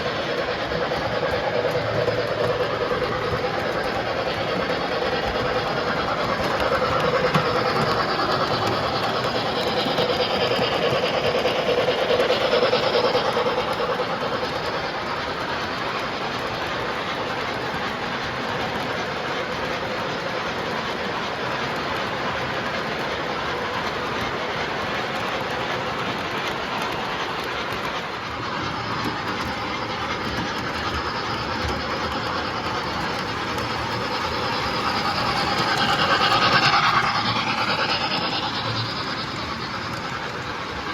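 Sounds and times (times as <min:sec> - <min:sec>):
model train motors whirring: 0:00.0 - 0:40.9.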